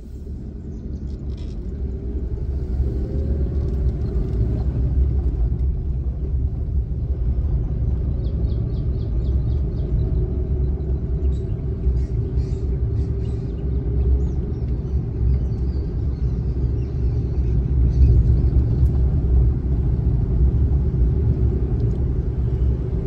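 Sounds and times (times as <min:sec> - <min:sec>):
tyres and engine rumbling on rough road: 0:00.0 - 0:23.0.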